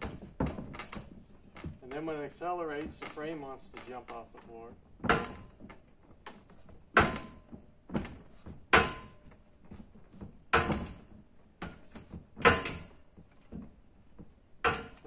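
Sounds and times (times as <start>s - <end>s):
machine knocking and rattling: 0.0s - 15.0s.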